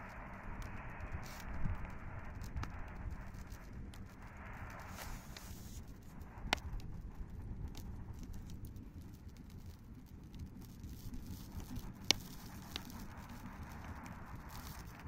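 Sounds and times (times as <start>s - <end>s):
campfire crackling: 0.0s - 15.0s
steady low rumble: 0.0s - 15.0s.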